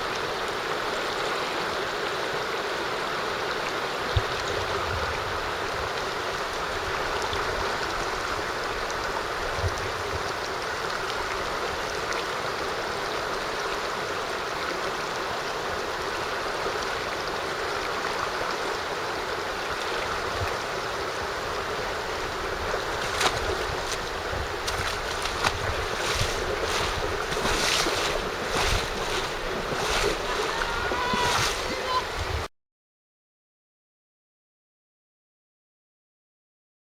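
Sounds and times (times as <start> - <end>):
mountain stream rushing: 0.0 - 32.5.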